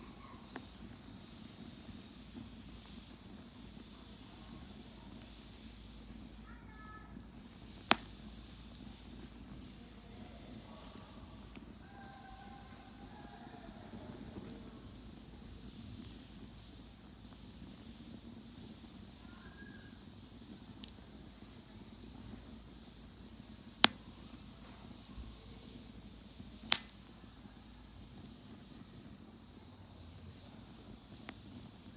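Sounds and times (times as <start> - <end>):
burning wood popping: 0.0 - 31.9
campfire crackling: 0.0 - 31.9.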